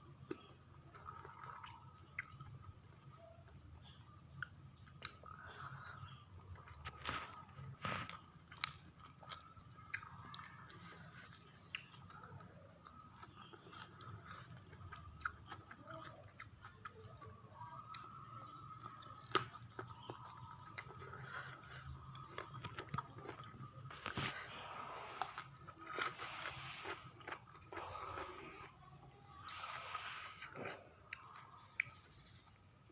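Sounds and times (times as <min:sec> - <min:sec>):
chewing and biting: 0:00.1 - 0:28.8, 0:30.4 - 0:32.7.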